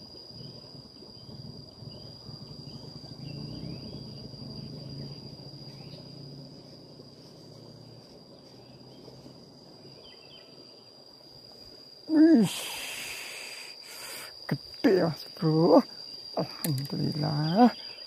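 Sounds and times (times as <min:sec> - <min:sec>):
insects shrilling: 0:00.0 - 0:18.0.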